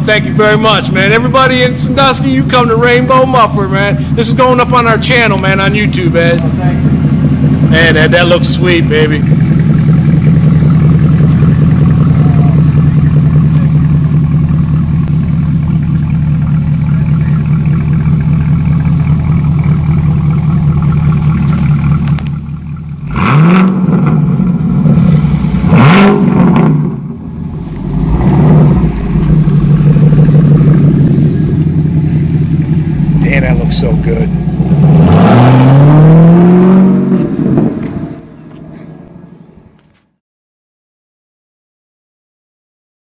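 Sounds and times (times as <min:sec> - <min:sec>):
car engine idling and revving: 0:00.0 - 0:40.1.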